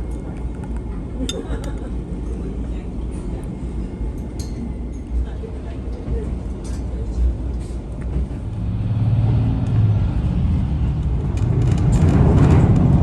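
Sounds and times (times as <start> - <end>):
diesel railcar engine hum: 0.0 - 13.0.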